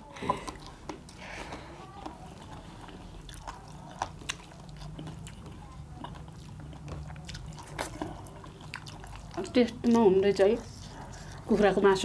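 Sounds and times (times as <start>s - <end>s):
person chewing meat: 0.0s - 11.9s.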